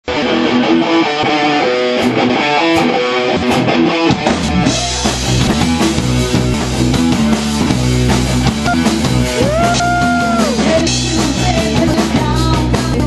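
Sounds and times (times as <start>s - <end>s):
bass guitar: 0.0s - 13.0s
electric guitar riff: 0.0s - 13.0s
drum kit playing: 0.1s - 13.0s.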